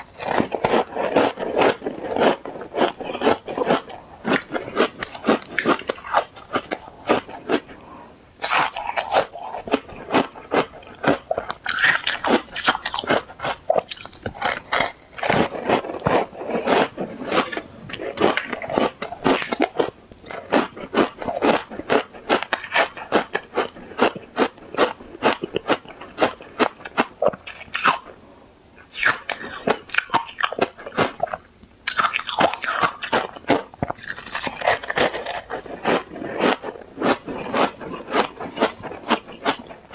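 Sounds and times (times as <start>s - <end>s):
ice being chewed: 0.0s - 28.1s, 28.8s - 39.9s.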